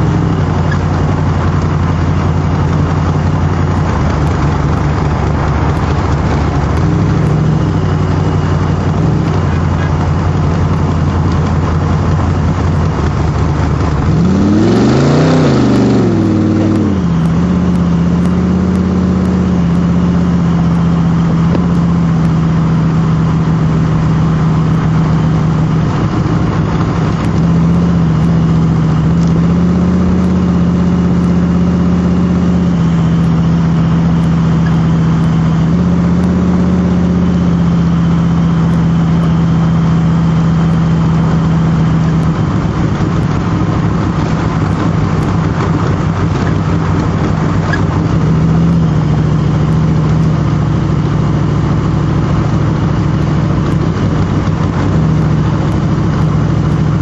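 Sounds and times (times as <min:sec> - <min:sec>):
car engine running and revving: 0:00.0 - 0:57.0.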